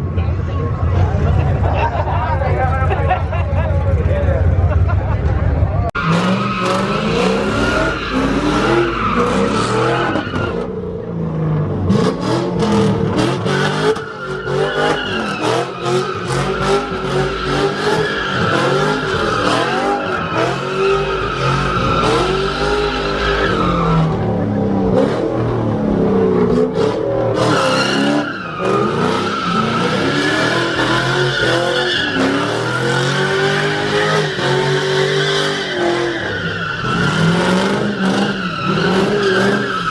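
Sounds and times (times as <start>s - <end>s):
car engine revving: 2.6s - 39.9s.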